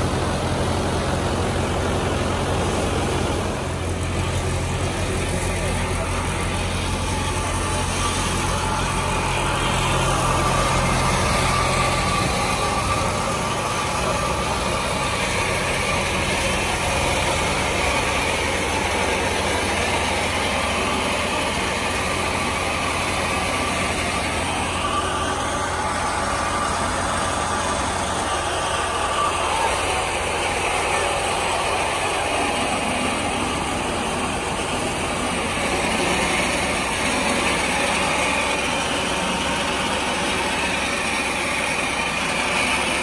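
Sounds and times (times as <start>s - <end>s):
thresher drum churning: 0.0s - 43.0s
tractor diesel engine running: 0.0s - 43.0s.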